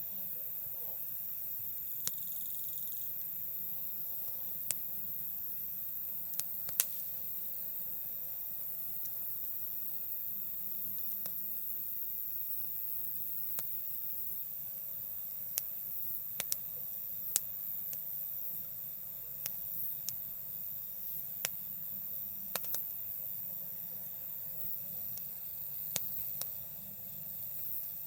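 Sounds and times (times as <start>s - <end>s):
high-pitched insect chorus: 0.0s - 28.0s
campfire crackling and popping: 0.2s - 28.0s.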